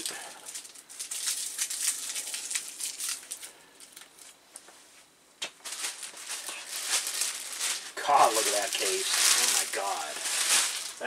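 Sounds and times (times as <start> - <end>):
plastic bag crinkling: 0.0 - 4.4, 5.4 - 11.0.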